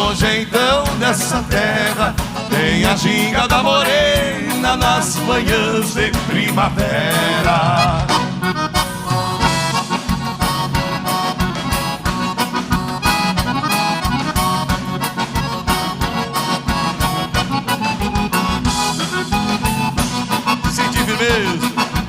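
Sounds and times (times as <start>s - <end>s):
button accordion: 0.0s - 22.0s
drums and bass beat: 0.0s - 22.0s.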